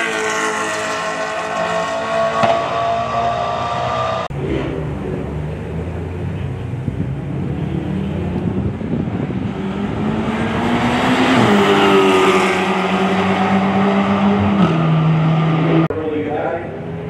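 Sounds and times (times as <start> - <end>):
racing car engines at full throttle: 0.0 - 17.0.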